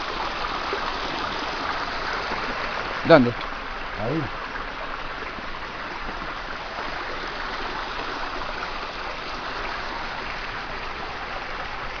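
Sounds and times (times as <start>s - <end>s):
mountain water rushing: 0.0s - 12.0s.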